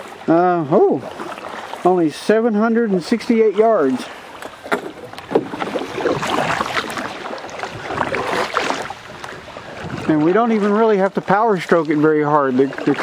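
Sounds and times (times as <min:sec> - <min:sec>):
canoe paddles dipping in water: 0:00.0 - 0:13.0
water splashing and dripping: 0:00.0 - 0:13.0.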